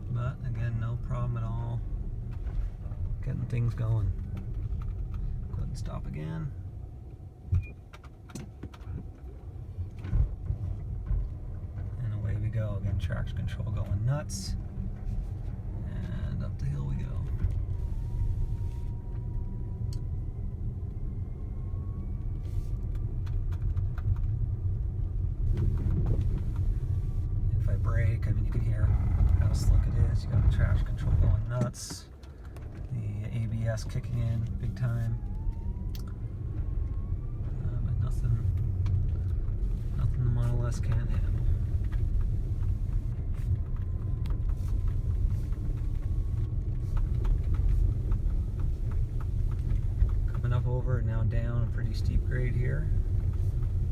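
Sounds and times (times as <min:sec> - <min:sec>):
low rumble of tyres and road: 0:00.0 - 0:53.9.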